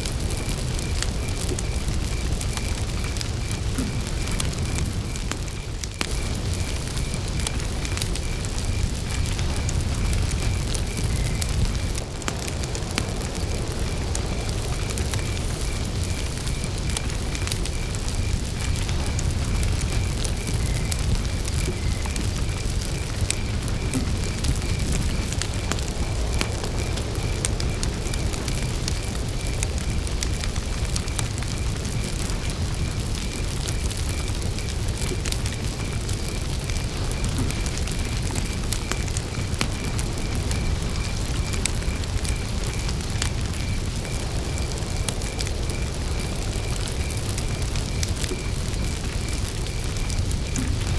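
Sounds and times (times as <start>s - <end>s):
campfire crackling and popping: 0.0s - 50.9s
cricket chirping: 0.0s - 50.9s.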